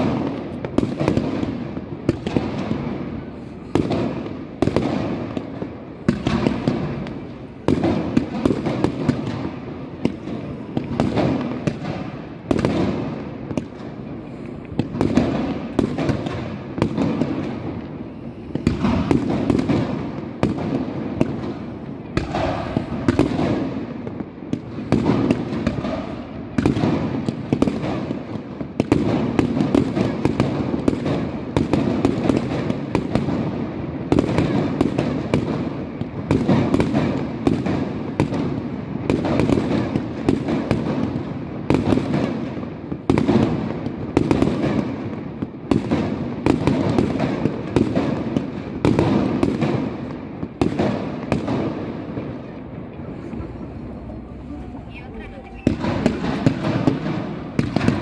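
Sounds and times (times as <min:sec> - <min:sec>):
firework fountains firing: 0:00.0 - 0:58.0
fireworks crackling: 0:00.0 - 0:58.0.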